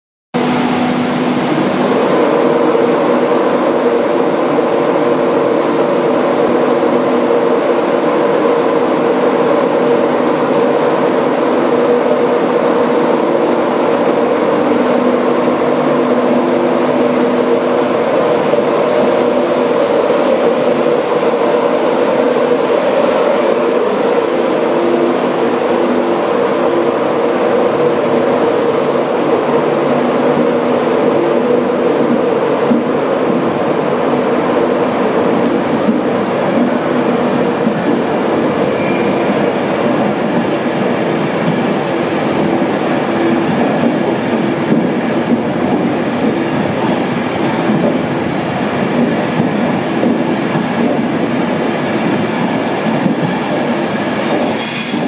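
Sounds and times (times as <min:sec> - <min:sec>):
electric locomotive hum: 0:00.4 - 0:55.0
train rumble: 0:00.4 - 0:55.0.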